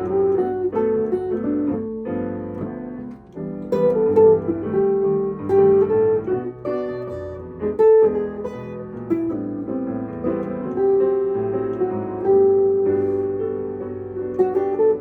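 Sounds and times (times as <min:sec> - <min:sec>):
piano: 0:00.0 - 0:15.0.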